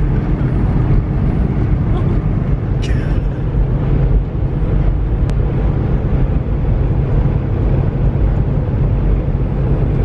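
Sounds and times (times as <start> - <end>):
truck diesel engine drone: 0.0 - 10.0
wind noise: 0.0 - 10.0.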